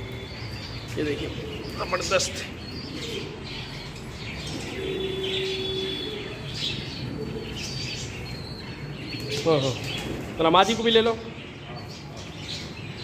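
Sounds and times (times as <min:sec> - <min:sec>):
bird chirps: 0:00.0 - 0:13.0
pigeons cooing: 0:00.0 - 0:13.0.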